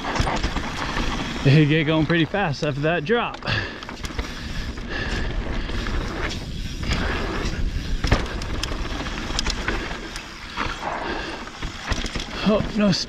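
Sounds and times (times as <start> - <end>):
bike rattling over bumps: 0.0 - 13.0
bike tyres rumbling on dirt: 0.0 - 13.0.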